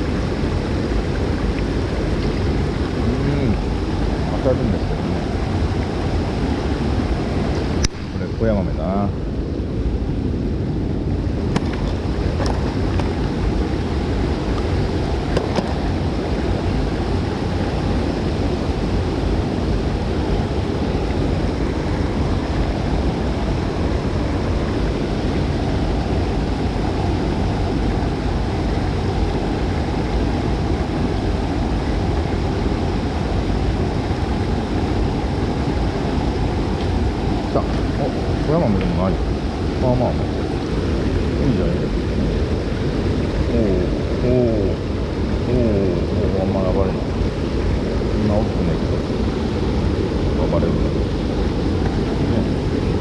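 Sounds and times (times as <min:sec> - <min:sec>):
water rushing: 0:00.0 - 0:53.0
wind buffeting microphone: 0:00.0 - 0:53.0.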